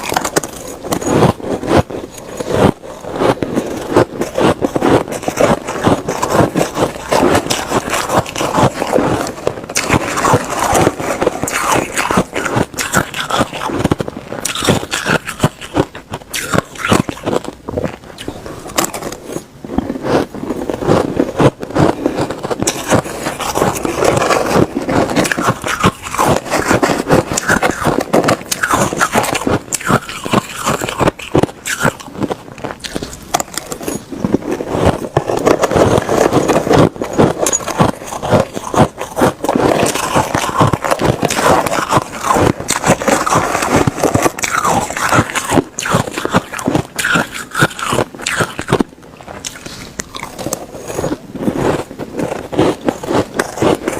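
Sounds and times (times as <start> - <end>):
ice crunching while chewing: 0.0 - 53.9.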